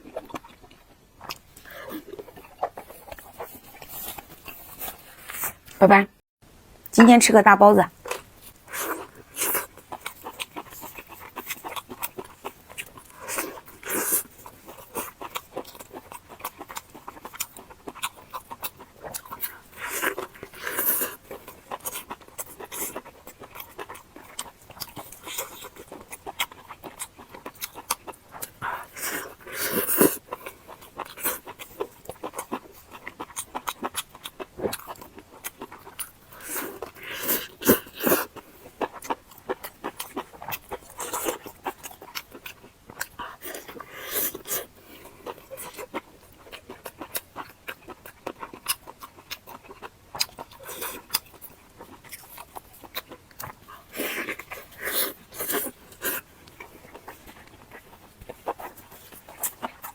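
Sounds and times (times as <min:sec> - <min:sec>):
wet chewing and lip-smacking: 0:00.0 - 0:05.5, 0:08.0 - 0:59.9.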